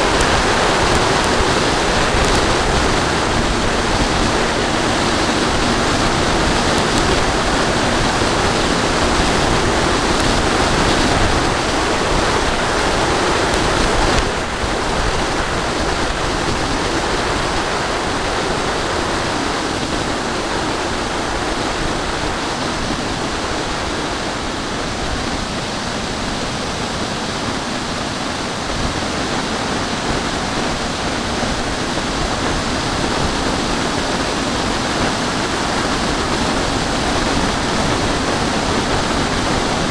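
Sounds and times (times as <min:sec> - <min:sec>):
airflow buffeting camera: 0:00.0 - 0:39.9.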